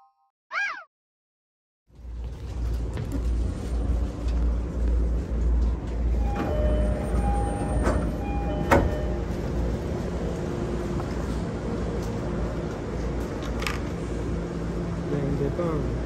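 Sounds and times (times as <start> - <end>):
train rumbling: 1.9 - 16.0.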